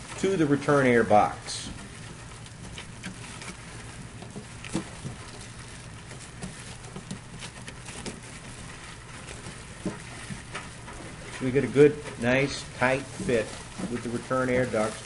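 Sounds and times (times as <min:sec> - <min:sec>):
foil duct rustling: 0:00.0 - 0:15.0.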